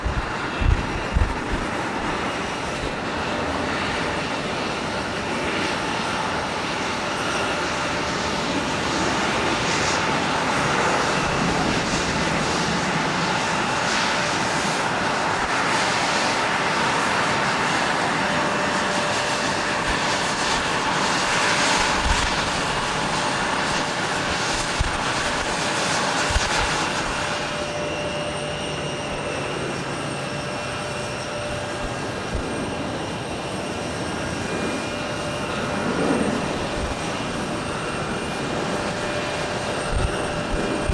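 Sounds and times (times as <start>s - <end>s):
jet engines rushing: 0.0s - 40.9s.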